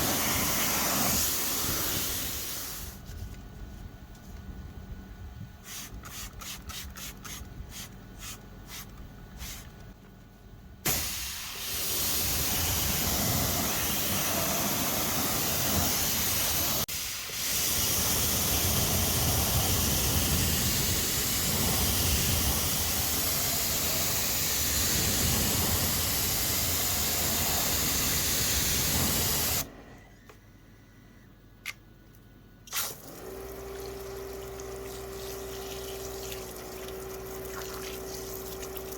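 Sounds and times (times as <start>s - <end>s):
pressure washer spraying water: 0.0s - 3.0s, 5.6s - 9.8s, 10.8s - 29.7s, 32.7s - 38.9s.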